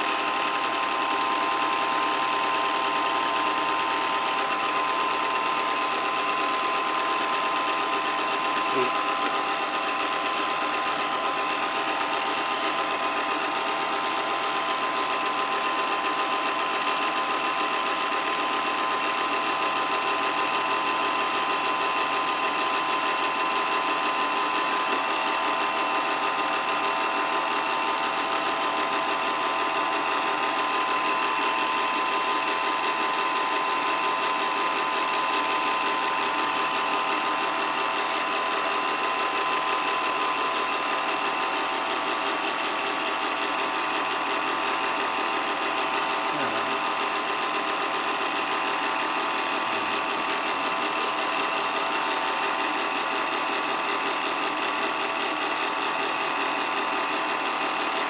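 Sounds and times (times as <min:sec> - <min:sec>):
film projector clattering: 0:00.0 - 0:58.0
motor whine: 0:00.0 - 0:58.0.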